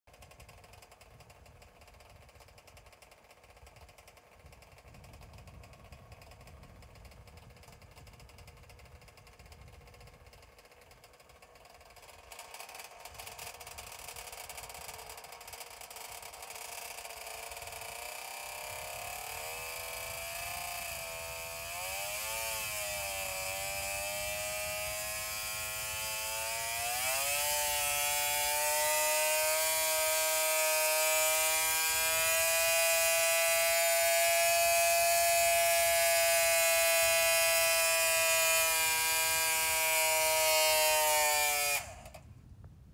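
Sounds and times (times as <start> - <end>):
two-stroke engine revving: 0.1 - 42.3.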